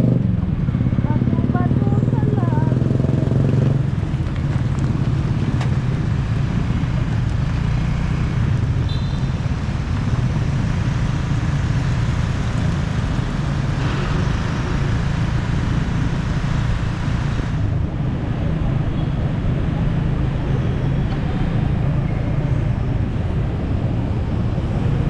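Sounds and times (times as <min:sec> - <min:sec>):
motorcycle engine: 0:00.0 - 0:25.0
road noise: 0:00.0 - 0:25.0.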